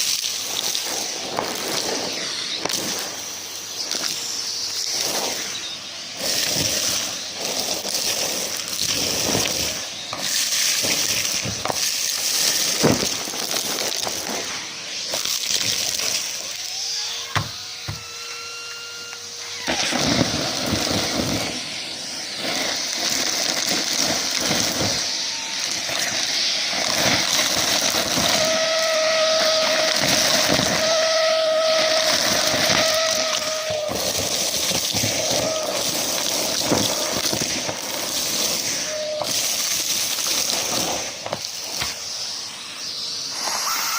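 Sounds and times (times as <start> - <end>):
debris rattling up hose: 0.0 - 42.4
vacuum cleaner running: 0.0 - 43.9
whistling tone: 0.7 - 13.1, 15.0 - 37.4, 38.3 - 40.8, 41.9 - 43.9.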